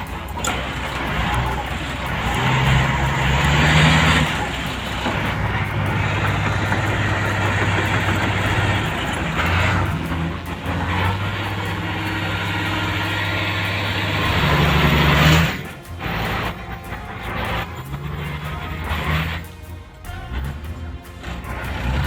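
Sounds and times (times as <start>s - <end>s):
heavy diesel engine under load: 0.0s - 22.0s.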